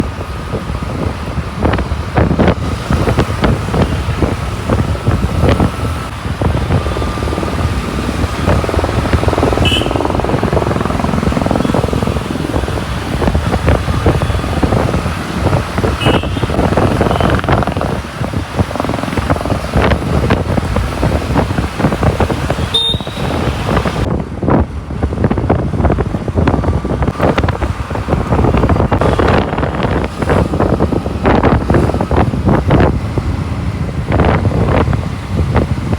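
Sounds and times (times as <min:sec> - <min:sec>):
road and engine rumble: 0:00.0 - 0:35.9
wind buffeting microphone: 0:00.0 - 0:35.9.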